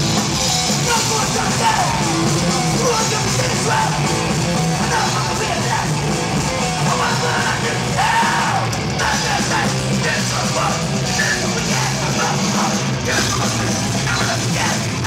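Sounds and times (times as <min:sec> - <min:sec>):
bass guitar: 0:00.0 - 0:15.0
distorted electric guitars: 0:00.0 - 0:15.0
drums: 0:00.0 - 0:15.0
shouted vocals: 0:00.8 - 0:06.0, 0:06.7 - 0:15.0.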